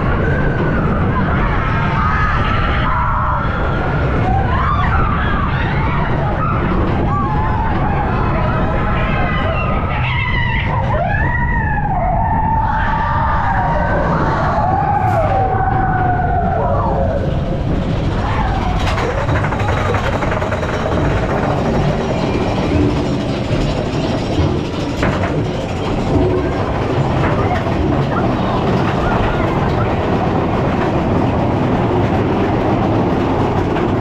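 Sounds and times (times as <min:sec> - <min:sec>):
roller coaster rumbling and rattling: 0:00.0 - 0:34.0.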